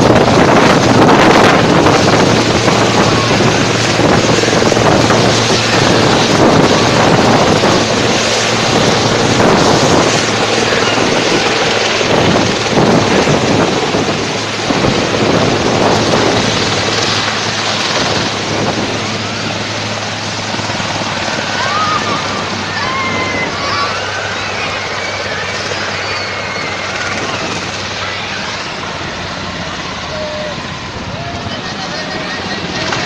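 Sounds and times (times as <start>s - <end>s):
helicopter engine and rotor: 0.0s - 33.0s
wind buffeting microphone: 0.0s - 33.0s.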